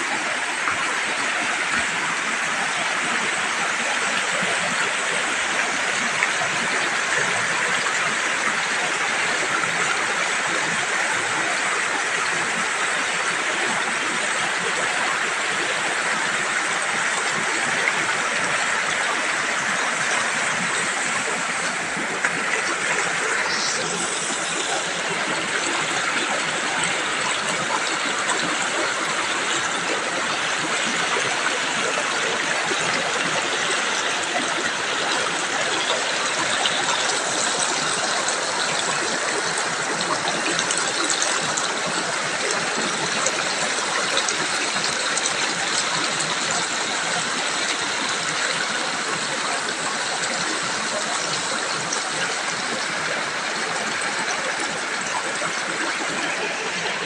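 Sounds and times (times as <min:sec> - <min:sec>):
river water rushing over boulders: 0:00.0 - 0:57.0.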